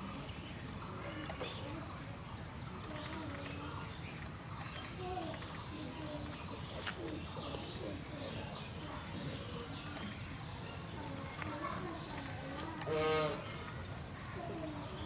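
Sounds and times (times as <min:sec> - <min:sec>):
low wavering bird calls: 0:00.0 - 0:15.0.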